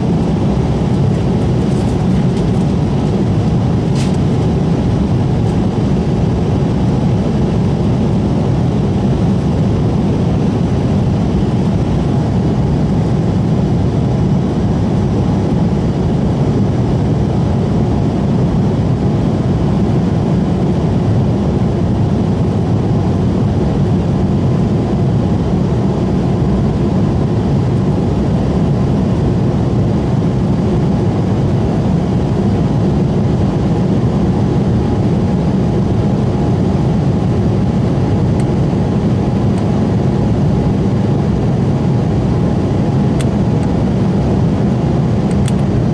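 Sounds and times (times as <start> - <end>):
airliner cabin engine drone: 0.0 - 45.9.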